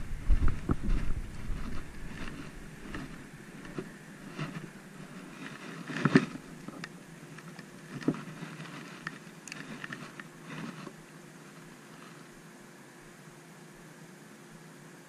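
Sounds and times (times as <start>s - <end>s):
rustle of gloves and clothing: 0.0s - 12.4s.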